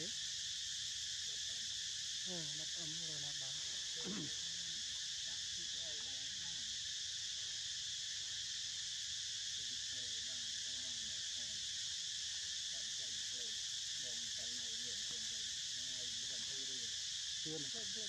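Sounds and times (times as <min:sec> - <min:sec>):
insects chorus drone: 0:00.0 - 0:18.0.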